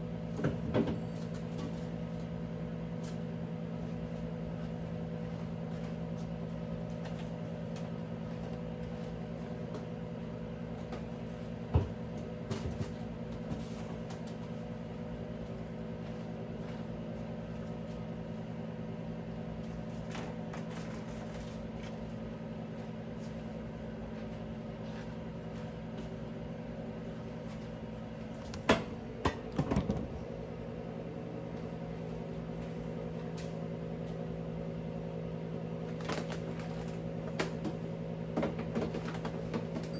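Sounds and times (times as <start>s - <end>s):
appliance hum: 0.0s - 39.9s.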